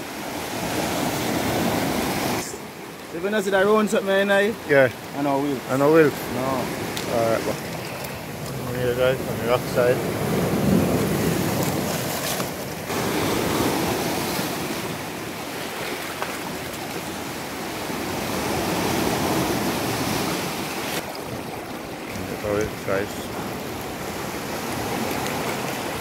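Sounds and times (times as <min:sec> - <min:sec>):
waves breaking over rocks: 0:00.0 - 0:26.0.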